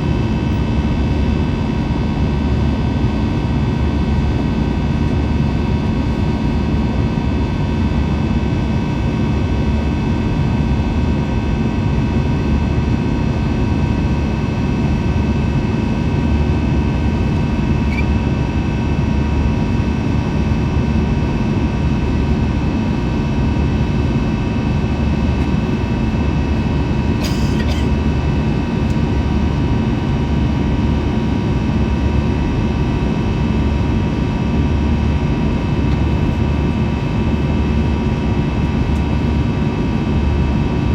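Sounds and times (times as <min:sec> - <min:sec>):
airliner cabin engine rumble: 0:00.0 - 0:34.6.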